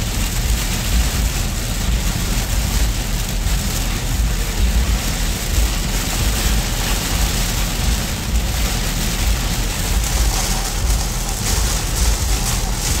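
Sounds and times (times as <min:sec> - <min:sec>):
heavy rain drumming on car: 0:00.0 - 0:13.0
low road rumble: 0:00.0 - 0:13.0.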